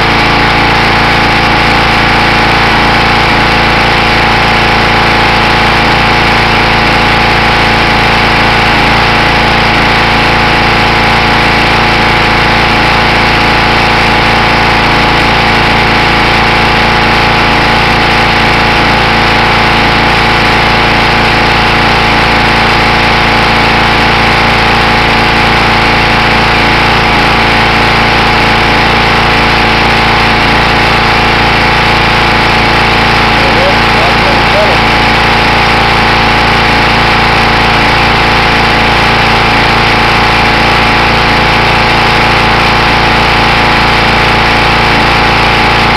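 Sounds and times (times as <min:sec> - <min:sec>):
pressure washer engine running: 0:00.0 - 0:45.9.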